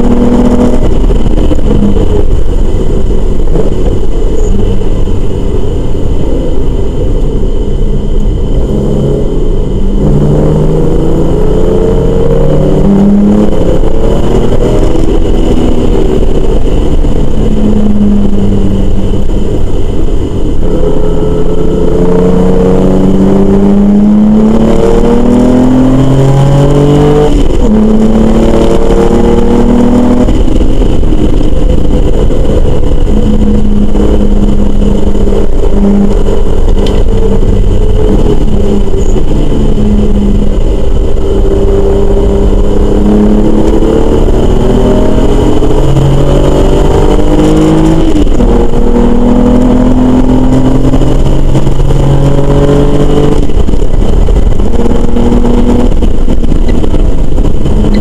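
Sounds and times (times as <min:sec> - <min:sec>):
low road rumble: 0:00.0 - 0:58.0
race car engine revving: 0:00.0 - 0:58.0.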